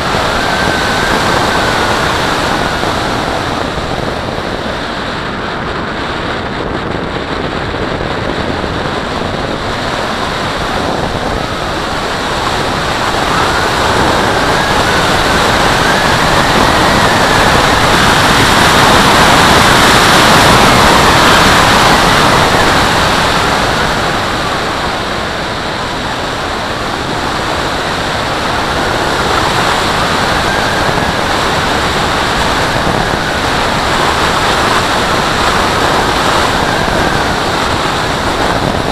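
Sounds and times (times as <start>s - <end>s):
rushing wind over wing: 0.0s - 38.9s.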